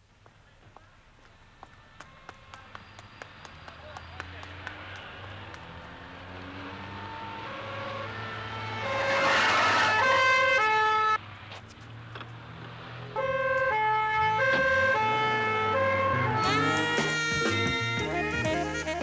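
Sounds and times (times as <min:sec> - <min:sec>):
two-tone police siren: 0:01.2 - 0:11.2, 0:13.2 - 0:19.0.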